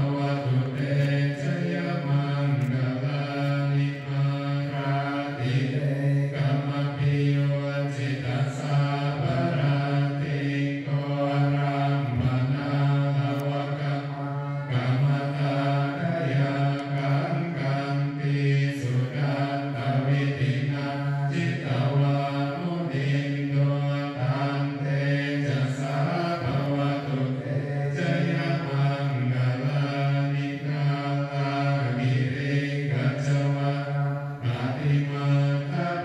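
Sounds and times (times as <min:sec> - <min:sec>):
low voices chanting together: 0:00.0 - 0:36.0.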